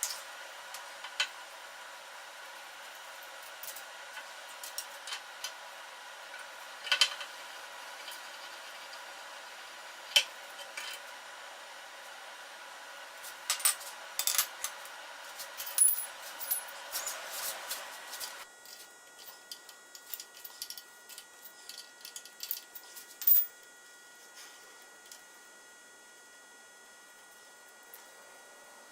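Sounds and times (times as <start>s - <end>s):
steady background hum: 0.0s - 28.9s.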